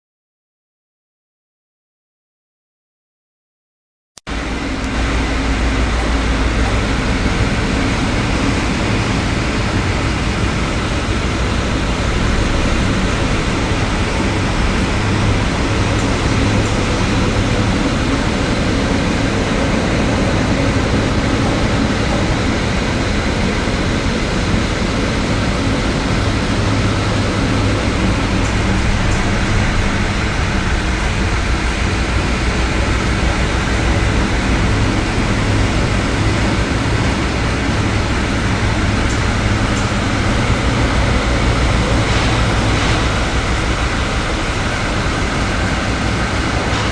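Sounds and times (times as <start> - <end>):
heavy sea: 4.3 - 46.9
low steady hum: 4.3 - 46.9
storm wind rushing: 4.4 - 46.9.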